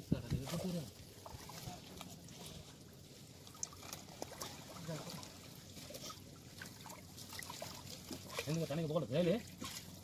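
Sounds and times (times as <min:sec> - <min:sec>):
water trickling and splashing: 0:00.0 - 0:10.0
light ticks and drips: 0:00.1 - 0:10.0.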